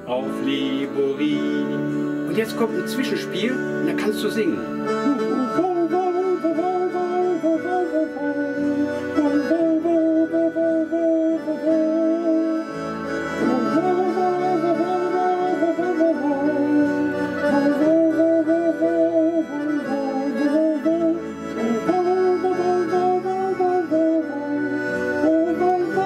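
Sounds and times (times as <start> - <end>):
accordion melody: 0.0 - 26.0.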